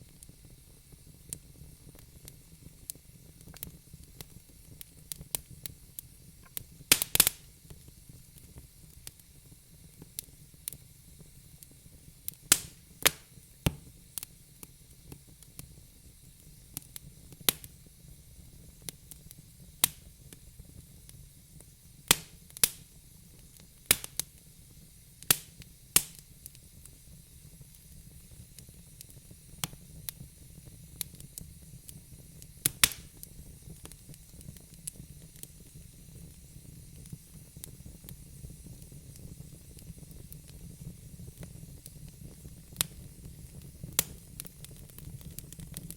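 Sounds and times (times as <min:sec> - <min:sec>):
fire popping: 0:00.0 - 0:45.9
soft steady hiss: 0:00.0 - 0:45.9
wood fire crackling: 0:00.0 - 0:45.9.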